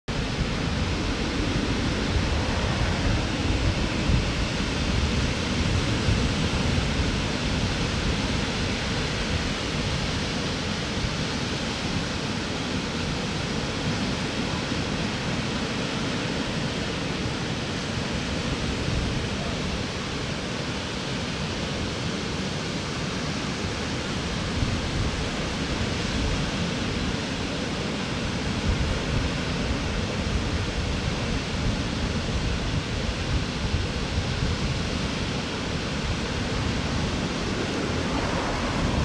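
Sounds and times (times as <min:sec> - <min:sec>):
small waves washing up beach: 0:00.1 - 0:39.0.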